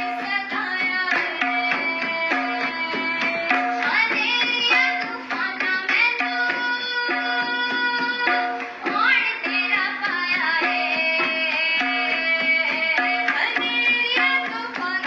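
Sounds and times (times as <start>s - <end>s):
tabla rhythm: 0.0s - 15.0s.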